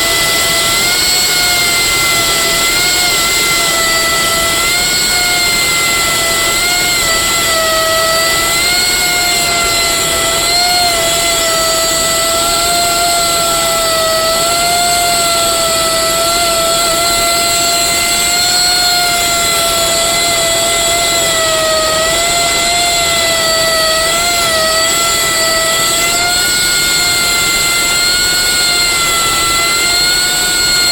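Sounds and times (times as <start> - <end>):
machinery whining: 0.0 - 30.9.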